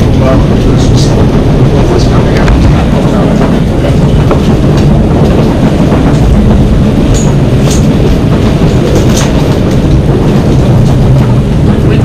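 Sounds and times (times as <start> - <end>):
gale wind and sea rumble: 0.0 - 12.0.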